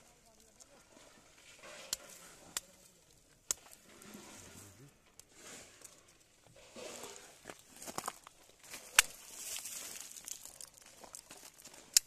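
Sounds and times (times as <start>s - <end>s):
coal crunching and clicking: 0.0s - 4.0s, 4.9s - 12.0s.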